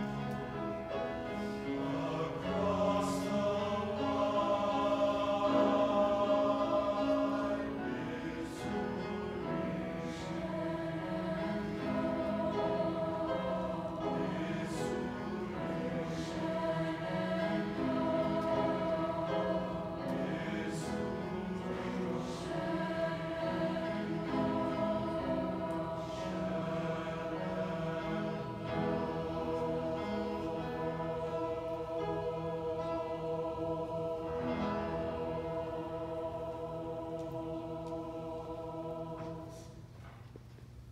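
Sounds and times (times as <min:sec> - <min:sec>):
mixed choir singing: 0:00.0 - 0:40.0.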